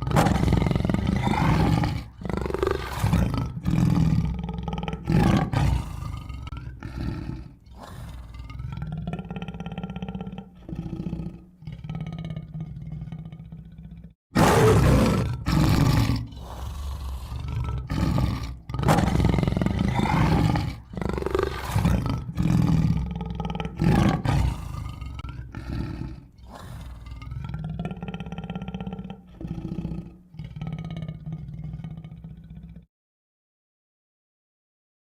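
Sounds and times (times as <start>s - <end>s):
tiger growling: 0.0s - 32.9s
tiger roaring and snarling: 0.0s - 32.9s.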